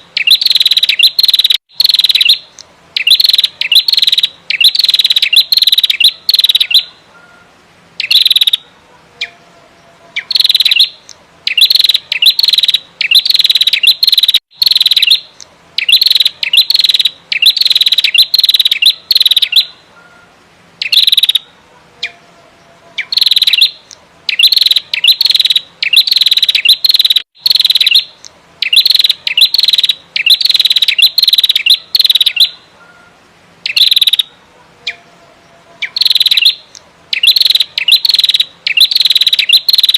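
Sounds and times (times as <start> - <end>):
songbird chattering calls: 0.0 - 9.4, 10.1 - 22.2, 23.0 - 35.1, 35.8 - 39.9.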